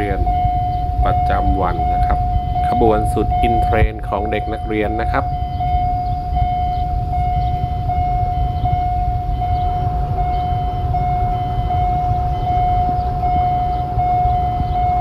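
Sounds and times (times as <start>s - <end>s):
level crossing alarm tone: 0.0s - 15.0s
low rumble: 0.0s - 15.0s.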